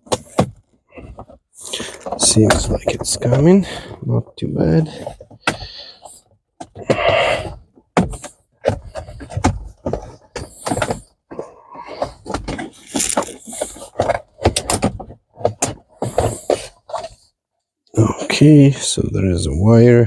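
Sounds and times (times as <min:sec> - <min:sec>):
plastic trim creaking and scraping: 0:00.0 - 0:17.3.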